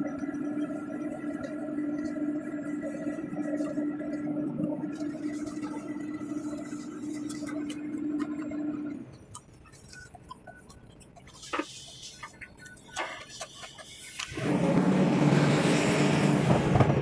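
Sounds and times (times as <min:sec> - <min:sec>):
steady droning hum: 0:00.0 - 0:16.8.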